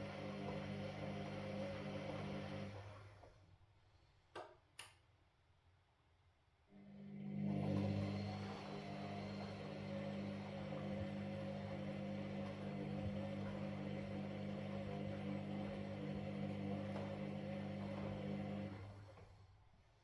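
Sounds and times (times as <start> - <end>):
washing machine running: 0.0 - 3.4, 6.8 - 19.5.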